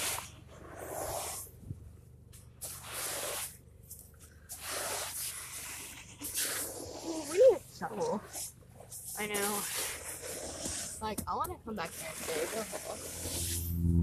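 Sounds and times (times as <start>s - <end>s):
hand scraping wet sand: 0.0s - 13.9s.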